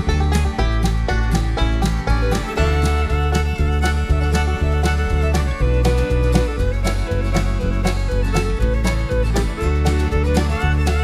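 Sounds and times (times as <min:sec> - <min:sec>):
country music with guitar and fiddle: 0:00.0 - 0:11.0.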